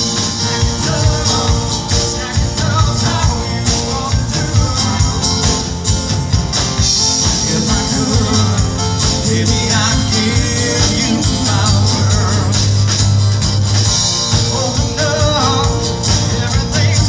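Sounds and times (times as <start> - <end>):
person singing: 0.0 - 5.8, 7.1 - 12.9, 14.1 - 17.0
live band playing: 0.0 - 17.0.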